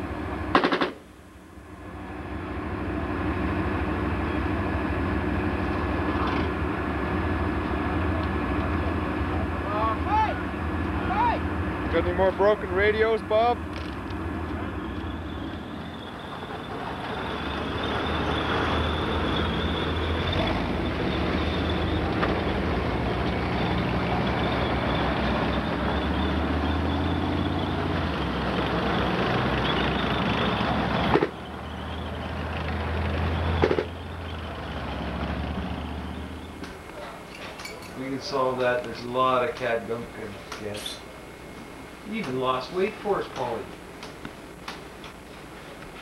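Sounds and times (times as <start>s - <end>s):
high whine: 0.0s - 46.0s
tank engine rumble: 0.0s - 46.0s.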